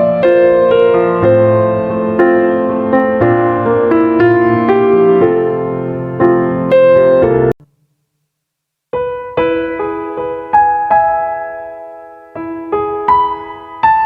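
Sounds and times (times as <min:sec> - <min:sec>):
slow piano music: 0:00.0 - 0:07.6, 0:09.0 - 0:14.0.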